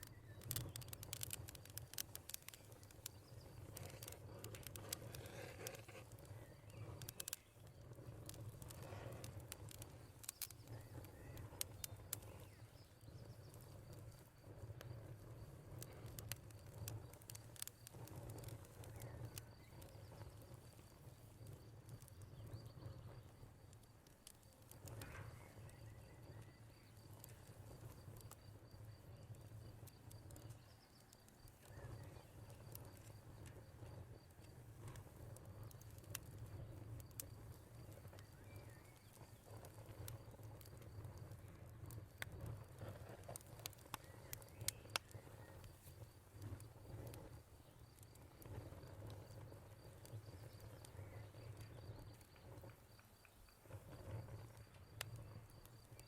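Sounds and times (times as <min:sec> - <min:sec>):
crickets trilling: 0:00.0 - 0:56.0
wood fire crackling and popping: 0:00.0 - 0:56.0.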